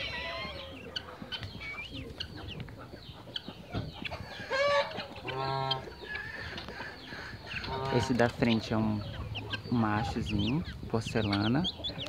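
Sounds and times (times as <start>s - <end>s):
low-pitched chicken calls: 0.0s - 10.2s
chicks peeping: 0.0s - 12.0s.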